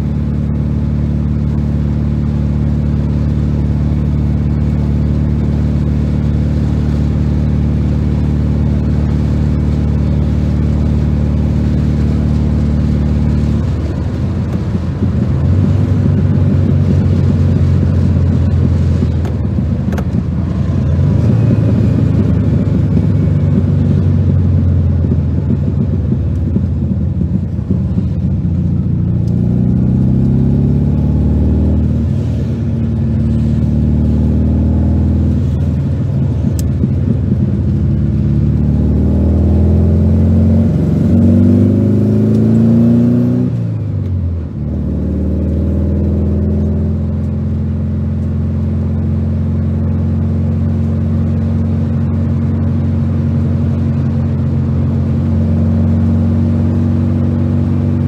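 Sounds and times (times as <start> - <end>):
car engine accelerating through gears: 0.0 - 58.0.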